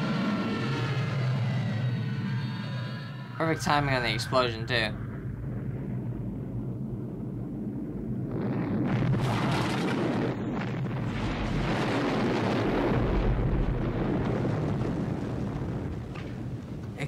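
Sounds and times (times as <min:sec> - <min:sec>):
explosion roar: 0:00.0 - 0:15.9.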